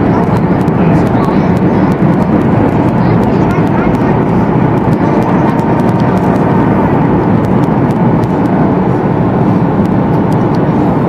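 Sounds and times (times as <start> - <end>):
airplane cabin engine rush: 0.0 - 11.0
faint engine whine: 0.0 - 11.0.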